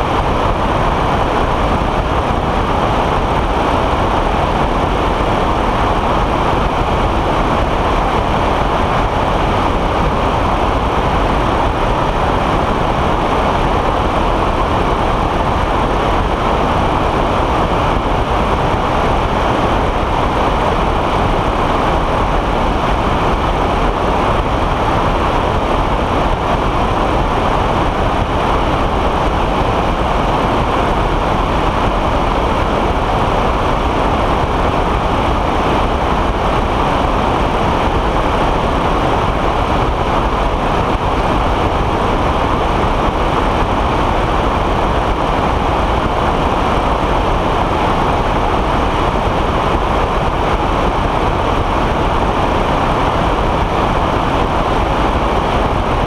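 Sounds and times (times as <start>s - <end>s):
aircraft engine noise: 0.0s - 56.0s
wind blowing across microphone: 0.0s - 56.0s.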